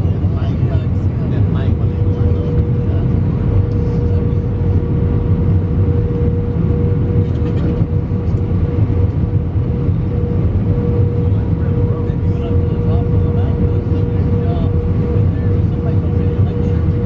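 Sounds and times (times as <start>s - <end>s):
aircraft cabin rumble: 0.0s - 17.0s
mid-pitched hum: 0.0s - 17.0s.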